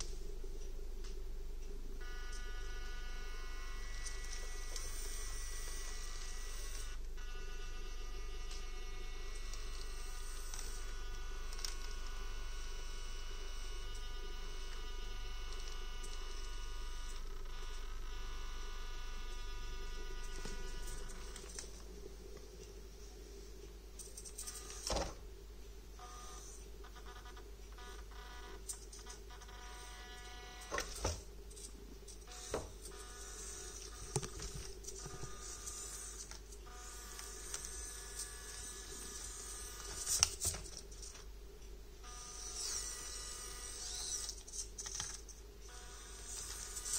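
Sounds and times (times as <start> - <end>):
small electric motor whining: 2.0 - 21.9, 24.0 - 25.1, 26.0 - 41.2, 42.0 - 46.9.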